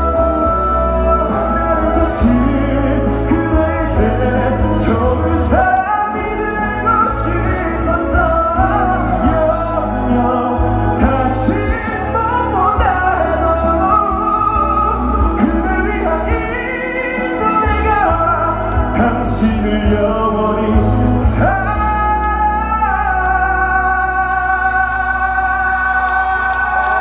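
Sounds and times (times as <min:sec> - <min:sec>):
instrumental accompaniment with bass: 0:00.0 - 0:27.0
person singing: 0:00.0 - 0:27.0.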